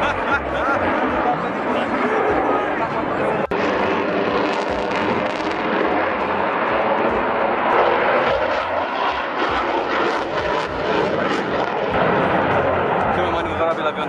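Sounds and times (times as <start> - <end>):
jet aircraft flying overhead: 0.0 - 14.0.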